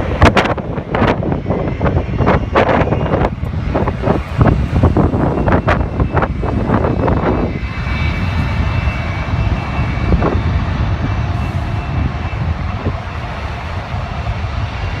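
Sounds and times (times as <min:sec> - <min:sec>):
high engine whine: 0:00.0 - 0:15.0
jet engines rumbling: 0:00.0 - 0:15.0.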